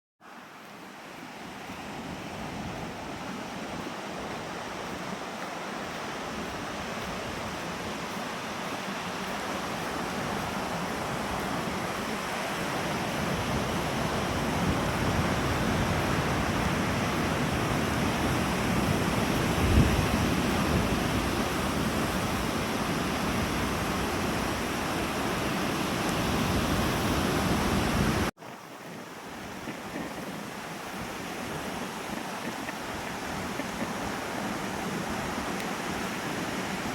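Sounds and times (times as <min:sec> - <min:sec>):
waves washing onto beach: 0:00.2 - 0:36.9
wind buffeting microphone: 0:01.4 - 0:36.9.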